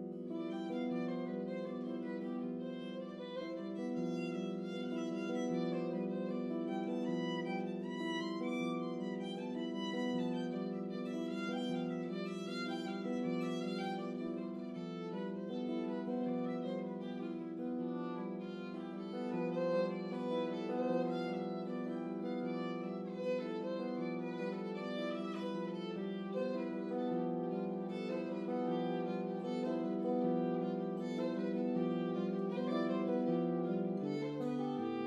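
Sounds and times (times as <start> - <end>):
bowed violin music: 0.0 - 35.0.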